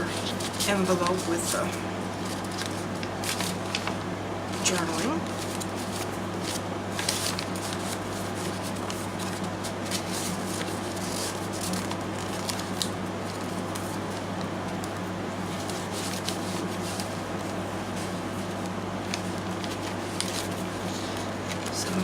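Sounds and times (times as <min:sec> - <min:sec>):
paper pages rustling: 0:00.0 - 0:22.0
steady low hum: 0:00.0 - 0:22.0.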